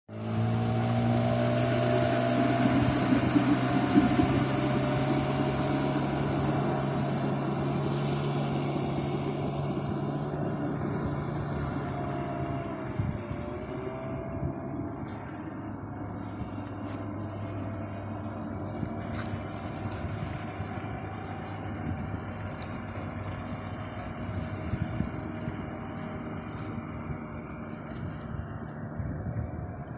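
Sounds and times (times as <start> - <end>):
outboard motor running: 0.1 - 29.9
rushing water: 0.1 - 29.9
wind noise: 0.8 - 29.9.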